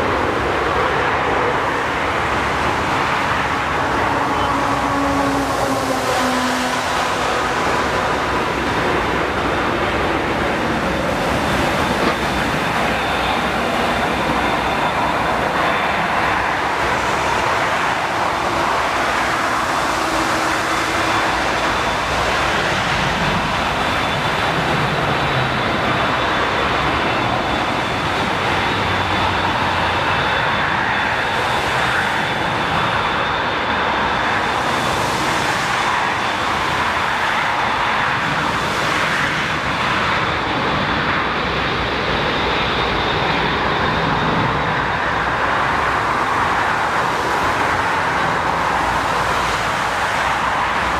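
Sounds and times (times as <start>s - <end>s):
jet engines running: 0.0s - 50.9s.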